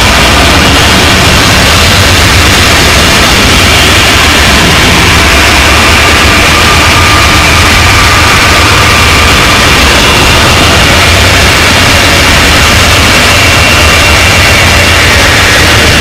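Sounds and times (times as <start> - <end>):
black metal distorted guitars: 0.0 - 16.0.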